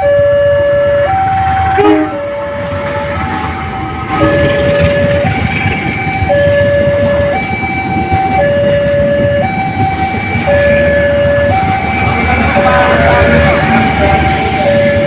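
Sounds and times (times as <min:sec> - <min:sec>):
train rumbling on track: 0:00.0 - 0:15.0
two-tone warning alarm: 0:00.0 - 0:15.0.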